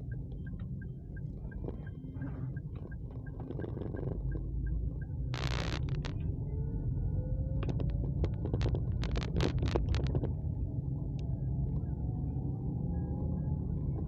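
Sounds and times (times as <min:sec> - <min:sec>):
vehicle rumbling: 0:00.0 - 0:14.0.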